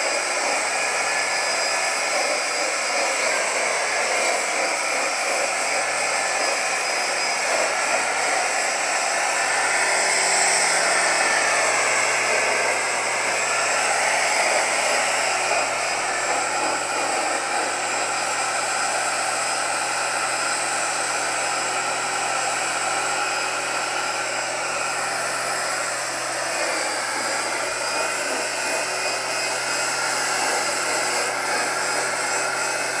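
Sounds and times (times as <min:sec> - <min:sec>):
string trimmer cutting grass: 0:00.0 - 0:33.0.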